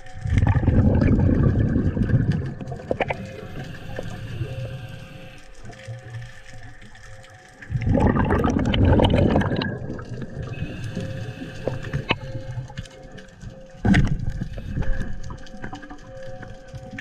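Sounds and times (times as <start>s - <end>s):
faint clicks and crackles: 0.0s - 17.0s
underwater bubbling and rushing: 0.0s - 17.0s.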